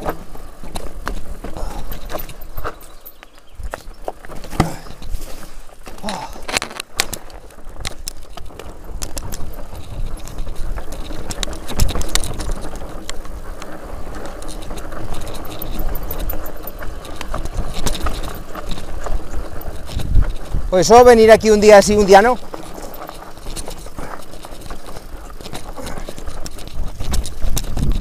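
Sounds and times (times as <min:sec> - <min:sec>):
bike chain clicks and rattles: 0:00.0 - 0:28.0
tyres crunching over gravel: 0:00.0 - 0:28.0.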